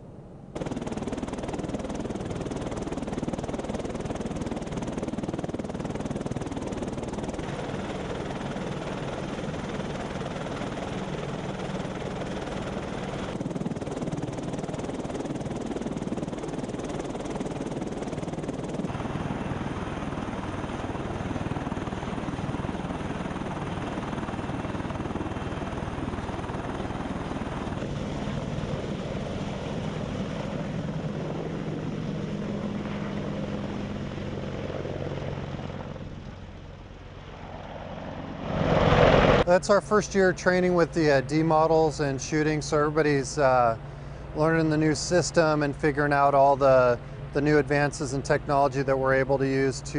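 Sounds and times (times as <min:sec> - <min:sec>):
helicopter engines and rotors: 0:00.0 - 0:49.9.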